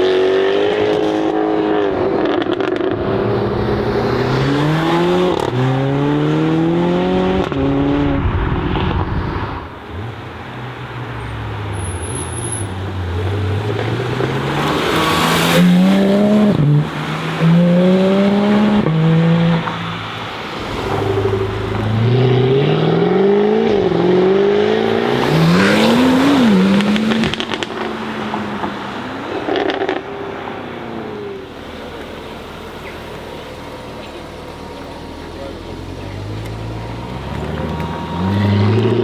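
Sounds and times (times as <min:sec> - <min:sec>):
car engine accelerating hard: 0:00.0 - 0:10.3, 0:11.4 - 0:39.0.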